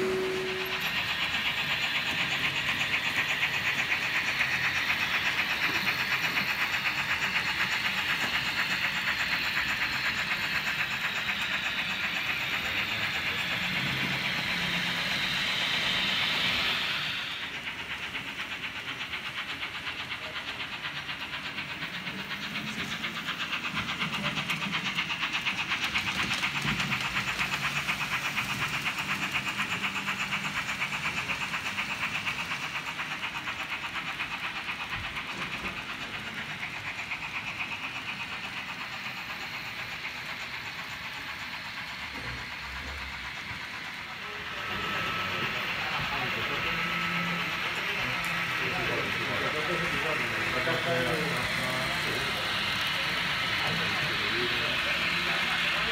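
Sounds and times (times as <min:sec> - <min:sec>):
model locomotive hiss: 0:00.0 - 0:55.9
model train clattering on track: 0:00.0 - 0:55.9.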